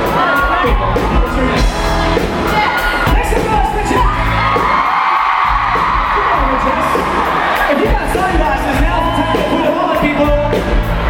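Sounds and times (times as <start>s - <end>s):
crowd screaming and cheering: 0.0s - 11.0s
live rock-pop band music: 0.0s - 11.0s.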